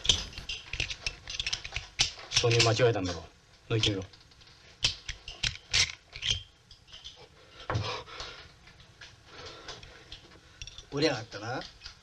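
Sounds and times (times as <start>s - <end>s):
metallic clicks of rifle parts: 0.0s - 7.2s, 8.2s - 12.0s.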